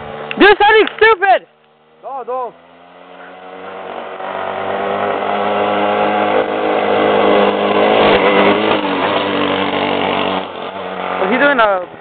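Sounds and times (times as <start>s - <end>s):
small engine at high revs: 0.0s - 12.0s.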